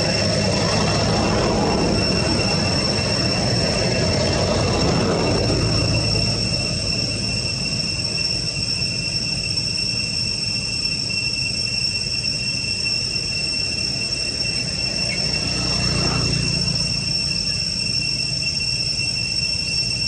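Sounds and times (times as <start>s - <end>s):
cicadas singing: 0.0s - 20.0s.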